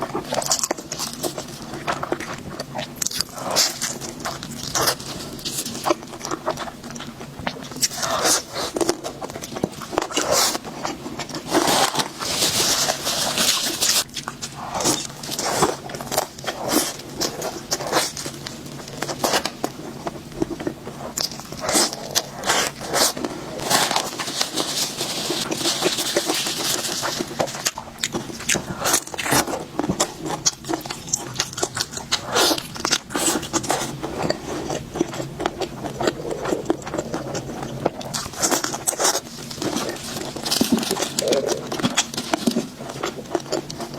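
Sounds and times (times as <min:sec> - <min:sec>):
crunching and chewing food: 0:00.0 - 0:43.9.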